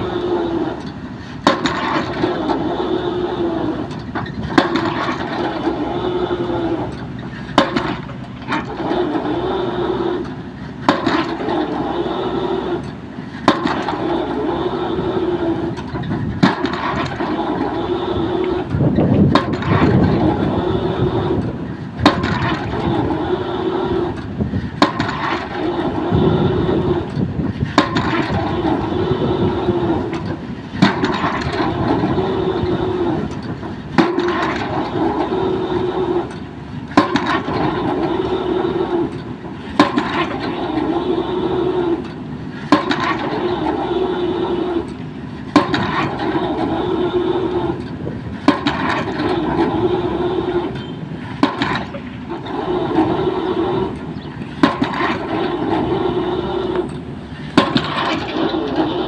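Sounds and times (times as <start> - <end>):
excavator engine and hydraulics humming: 0.0 - 59.0.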